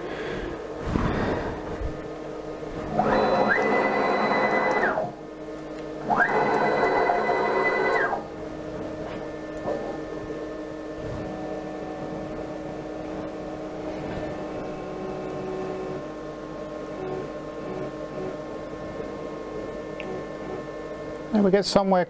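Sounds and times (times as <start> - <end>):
stepper motor whine: 0.0 - 21.3.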